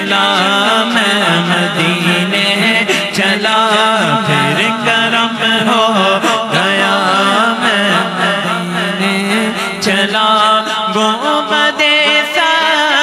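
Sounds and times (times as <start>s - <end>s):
men singing devotional song: 0.0s - 13.0s.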